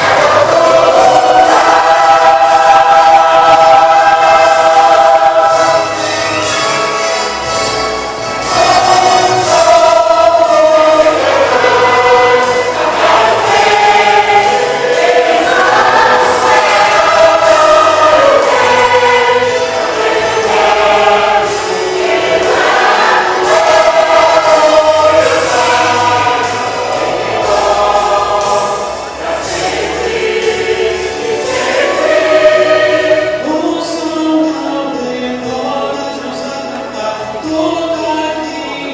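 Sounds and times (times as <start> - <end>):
church choir singing: 0.0 - 38.9
instrumental accompaniment: 0.0 - 38.9.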